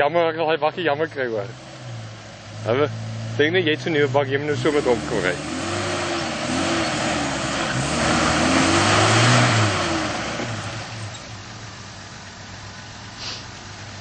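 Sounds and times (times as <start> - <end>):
pickup engine revving: 0.7 - 14.0.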